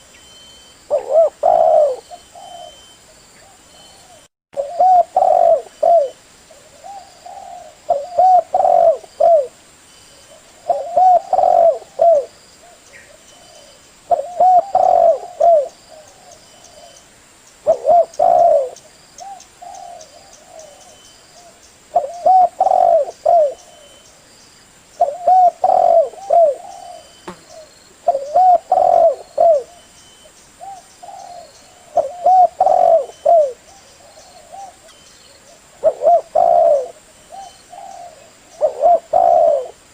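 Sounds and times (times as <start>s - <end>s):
dove cooing: 0.9s - 9.6s, 10.3s - 17.0s, 17.6s - 24.0s, 25.0s - 29.9s, 30.6s - 39.8s.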